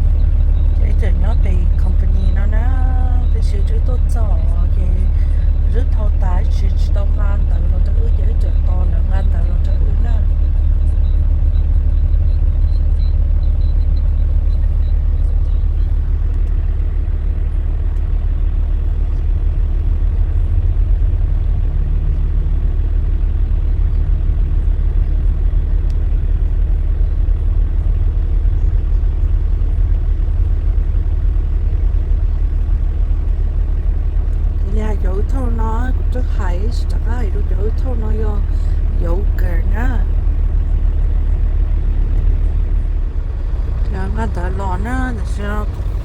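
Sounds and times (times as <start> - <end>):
truck rumbling on road: 0.0 - 46.0.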